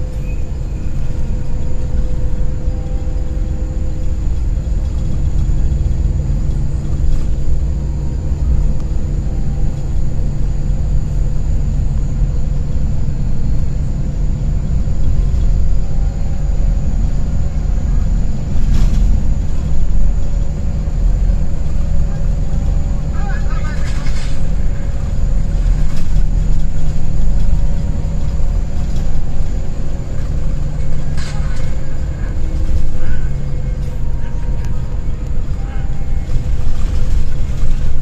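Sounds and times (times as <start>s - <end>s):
coach engine rumble: 0.0s - 38.0s
road noise: 0.0s - 38.0s.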